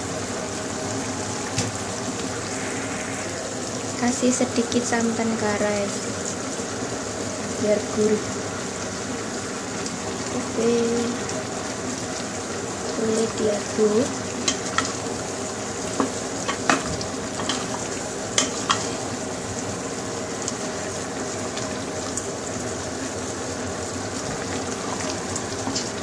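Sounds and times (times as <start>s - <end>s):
stew sizzling in a pot: 0.0s - 26.0s.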